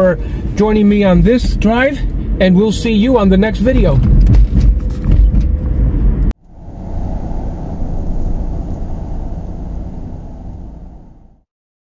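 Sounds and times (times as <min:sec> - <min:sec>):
low rumbling swell: 0:00.0 - 0:11.4
car road and engine rumble: 0:00.0 - 0:11.5.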